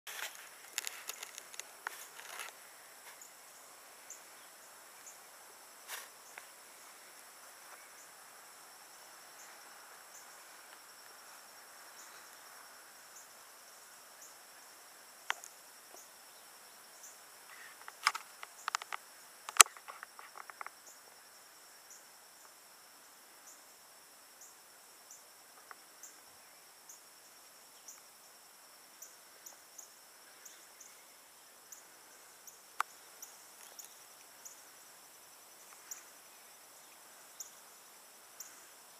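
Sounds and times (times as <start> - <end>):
high-pitched insect chorus: 0.1 - 38.9.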